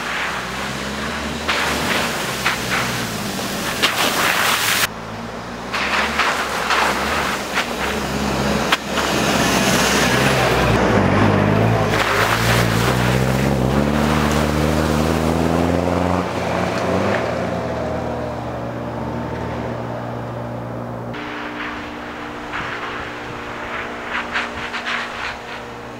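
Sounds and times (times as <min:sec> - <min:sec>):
water and mud splashing: 0:00.0 - 0:20.0, 0:21.1 - 0:25.9
engine under load: 0:00.0 - 0:25.9.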